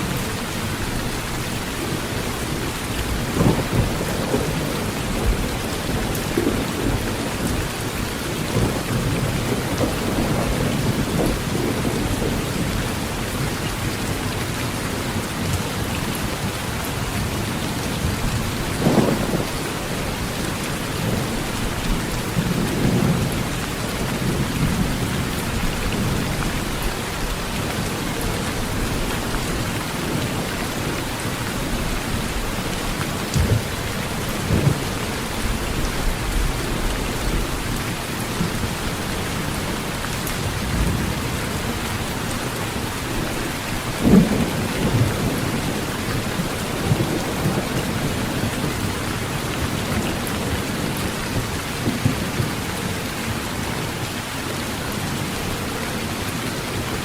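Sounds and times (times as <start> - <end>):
low thunder rumbles: 0.0 - 52.9
heavy rain on a tin roof: 0.0 - 57.0.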